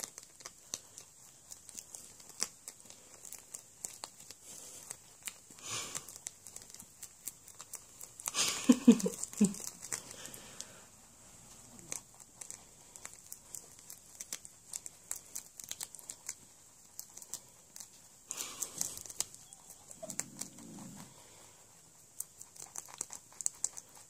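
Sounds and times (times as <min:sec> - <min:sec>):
rabbits chewing a leaf: 0:00.0 - 0:24.0.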